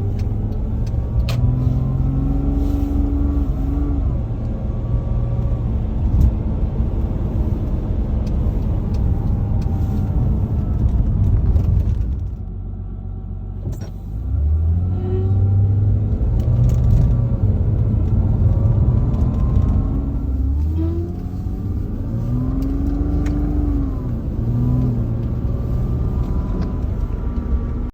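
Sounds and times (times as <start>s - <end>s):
car whine rising and falling: 0.0s - 27.9s
engine and road rumble: 0.0s - 27.9s.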